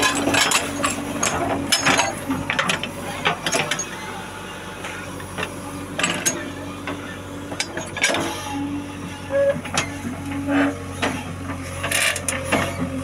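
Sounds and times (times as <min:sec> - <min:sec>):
backhoe arm clanking and rattling: 0:00.0 - 0:04.1, 0:04.8 - 0:13.0
diesel engine humming: 0:00.0 - 0:13.0.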